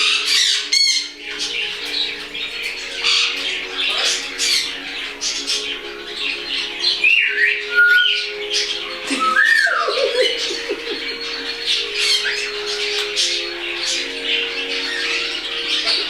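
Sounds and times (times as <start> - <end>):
cockatiels squawking: 0.0 - 16.0
falling chirps: 0.0 - 16.0
whistled sliding calls: 0.0 - 16.0.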